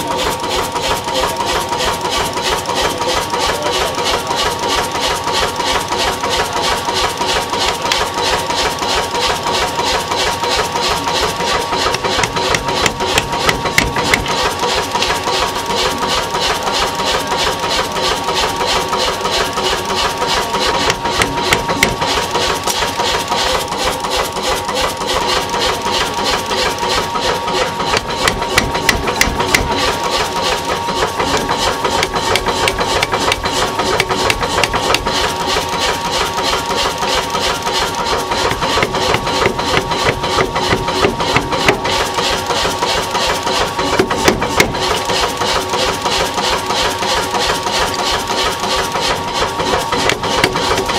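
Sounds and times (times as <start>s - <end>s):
motor hum: 0.0s - 50.9s
power hammer striking iron: 0.0s - 50.9s.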